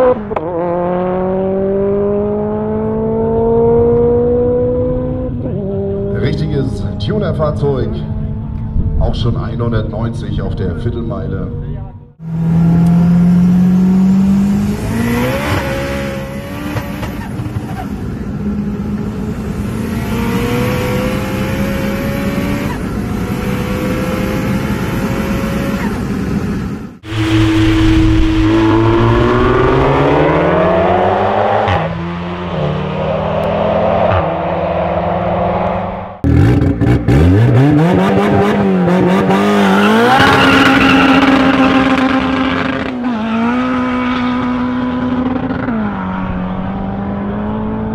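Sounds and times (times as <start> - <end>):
car engine accelerating hard: 0.0 - 9.3, 12.2 - 47.9.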